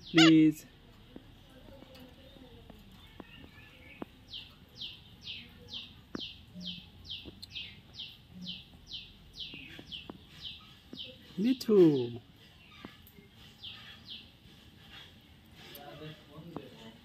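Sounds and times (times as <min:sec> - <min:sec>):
bird chirping: 0:00.0 - 0:16.9.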